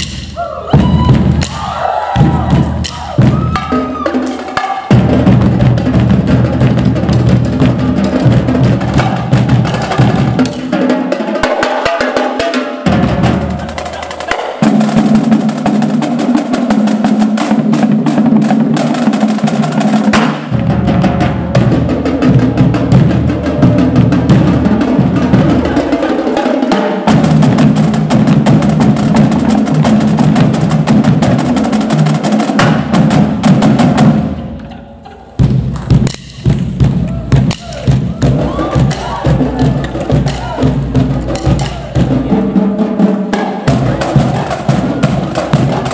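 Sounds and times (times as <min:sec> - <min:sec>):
snare drum rolls: 0:00.0 - 0:34.4, 0:35.3 - 0:45.9
tenor drums: 0:00.0 - 0:45.9.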